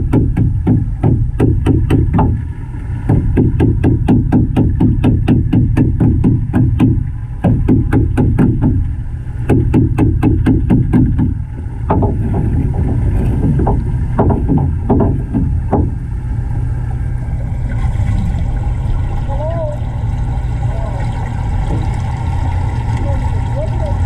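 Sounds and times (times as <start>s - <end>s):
underwater rumble of moving water: 0.0s - 24.0s.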